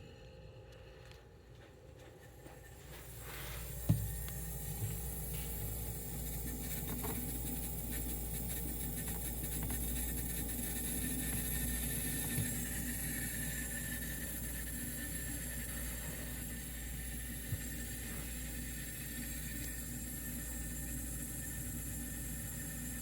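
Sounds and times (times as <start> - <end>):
refrigerator compressor humming: 0.0 - 23.0.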